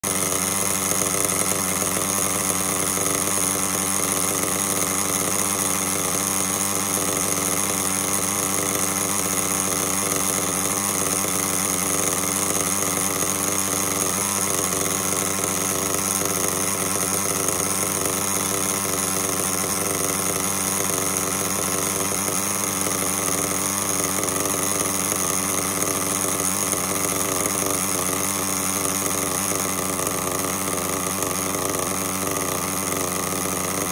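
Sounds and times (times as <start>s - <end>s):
model car engine idling: 0.0s - 33.9s.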